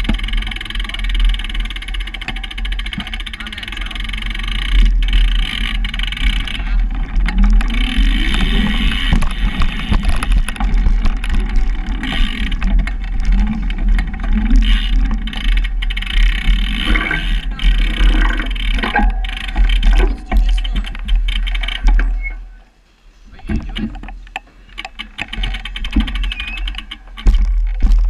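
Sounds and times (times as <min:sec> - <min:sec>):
bike clicks and knocks: 0:00.0 - 0:22.5, 0:23.3 - 0:28.0
bike tyres rumbling on wooden track: 0:00.0 - 0:22.6, 0:23.4 - 0:28.0.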